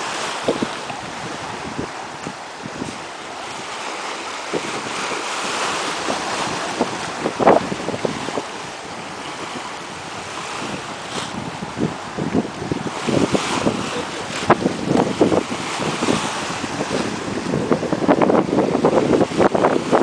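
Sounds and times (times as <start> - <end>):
waves lapping on shore: 0.0 - 20.0
wind buffeting microphone: 0.0 - 20.0.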